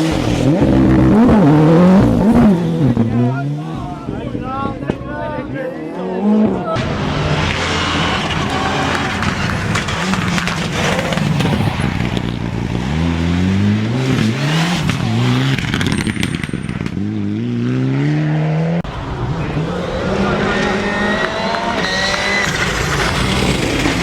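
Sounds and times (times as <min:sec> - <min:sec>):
rally car engine accelerating: 0:00.0 - 0:04.9, 0:05.9 - 0:24.0
road and tyre noise: 0:00.0 - 0:24.0.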